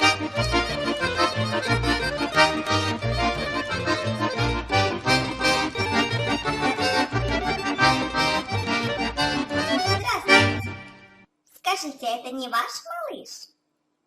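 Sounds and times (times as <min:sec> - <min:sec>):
upbeat accordion music: 0:00.0 - 0:11.3.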